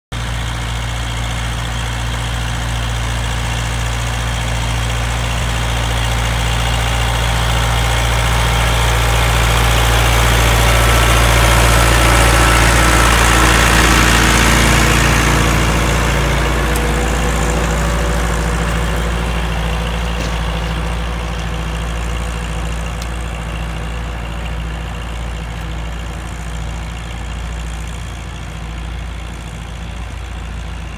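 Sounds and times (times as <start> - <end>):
tractor diesel engine under load: 0.1 - 30.9.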